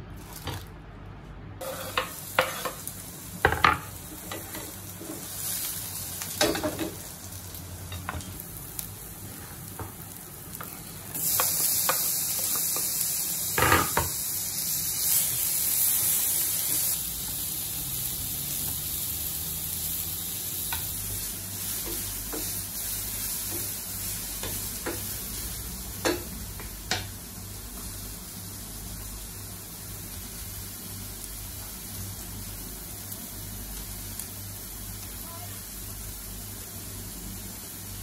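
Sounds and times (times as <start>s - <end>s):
vegetables sizzling in a frying pan: 1.6s - 38.0s.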